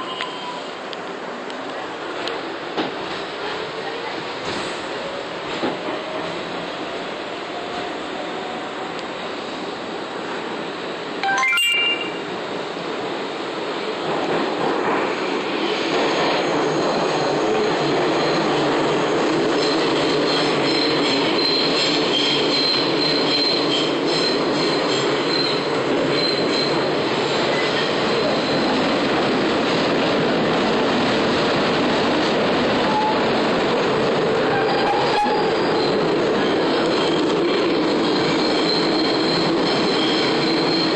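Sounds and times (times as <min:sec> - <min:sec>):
subway train wheels on rail: 0:00.0 - 0:11.2, 0:12.2 - 0:40.9.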